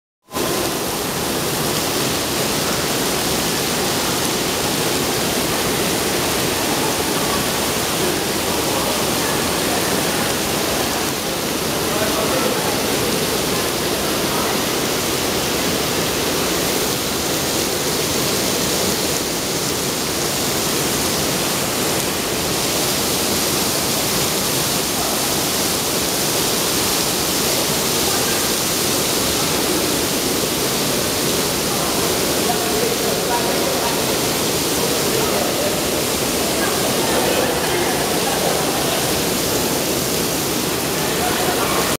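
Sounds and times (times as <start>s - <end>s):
artificial rain splashing on floor: 0.3s - 41.9s.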